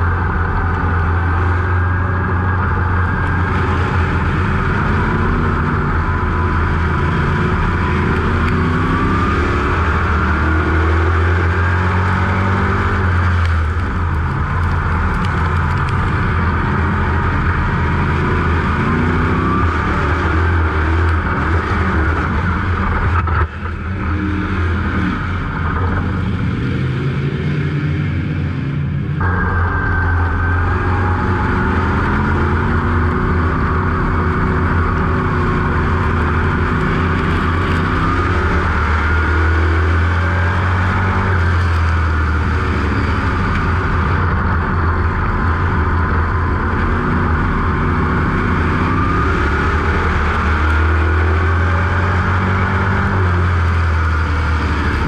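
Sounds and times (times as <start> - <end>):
race car engine running: 0.0 - 27.3, 28.1 - 55.0.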